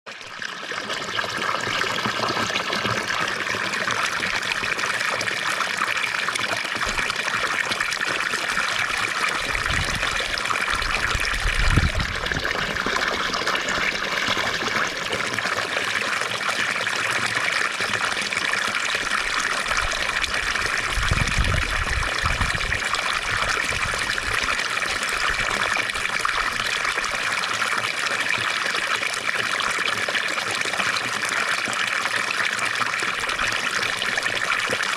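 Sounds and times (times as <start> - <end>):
fountain water splashing: 0.2 - 34.9.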